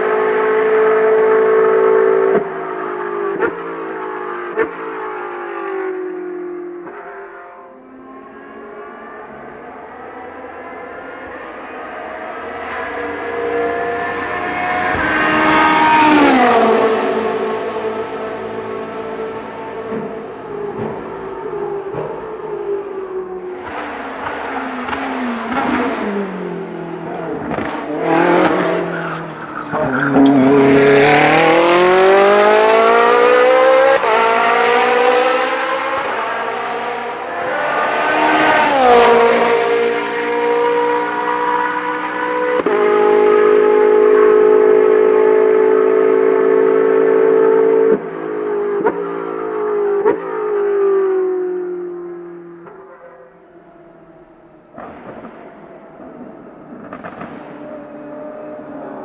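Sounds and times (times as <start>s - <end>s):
race car engine revving: 6.9s - 51.4s, 54.7s - 59.0s.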